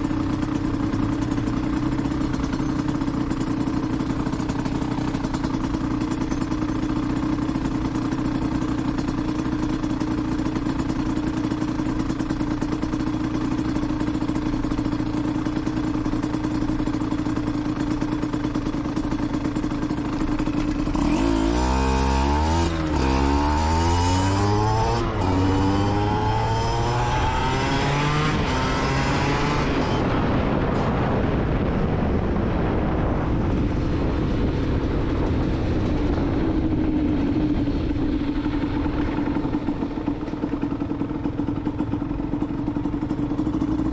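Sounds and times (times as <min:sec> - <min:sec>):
two-stroke engine revving: 0:00.0 - 0:31.6, 0:33.6 - 0:43.9.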